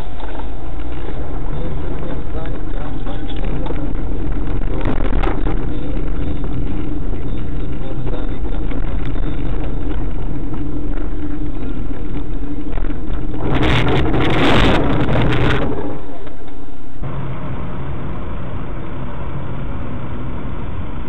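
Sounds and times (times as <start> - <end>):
tyre noise: 0.0 - 17.2
car engine hum inside cabin: 0.0 - 21.0
rough rushing noise: 0.0 - 21.0.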